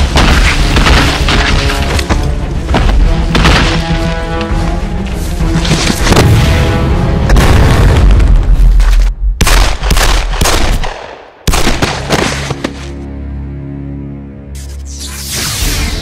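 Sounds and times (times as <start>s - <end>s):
film music: 0.0s - 16.0s.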